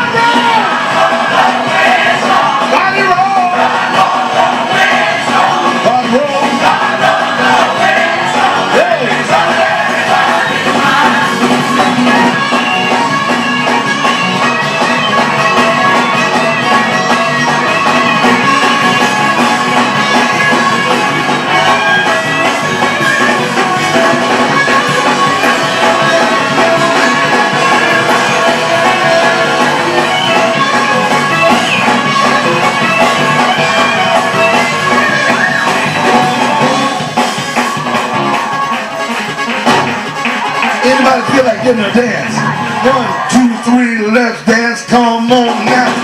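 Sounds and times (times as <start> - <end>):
instrumental gospel band music: 0.0 - 46.0.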